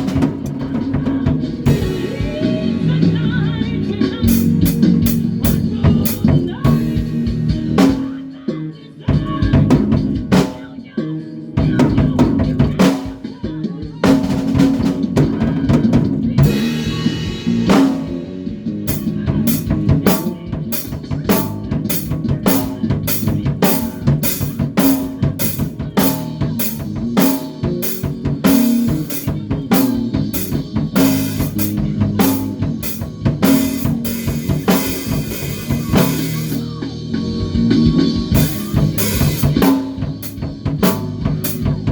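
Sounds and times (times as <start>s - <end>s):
drum kit beat: 0.0s - 41.9s.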